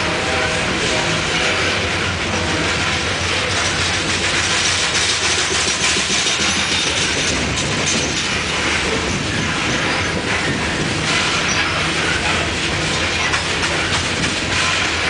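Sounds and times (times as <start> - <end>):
freight cars rattling: 0.0 - 15.0
train wheels on rails: 0.0 - 15.0.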